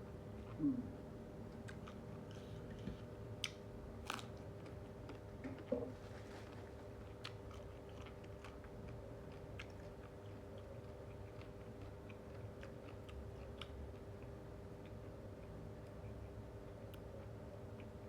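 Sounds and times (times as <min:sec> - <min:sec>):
person chewing: 0:01.5 - 0:18.0.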